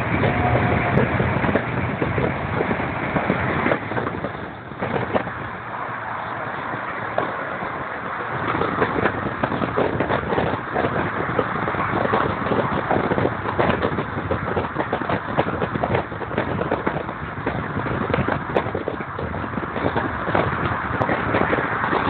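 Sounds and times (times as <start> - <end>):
road and wind noise in a car: 0.0 - 22.0
wind buffeting microphone: 0.0 - 22.0.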